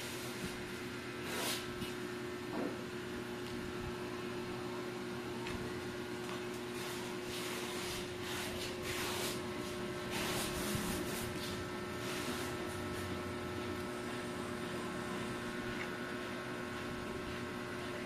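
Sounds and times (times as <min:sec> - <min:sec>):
appliance humming: 0:00.0 - 0:18.0.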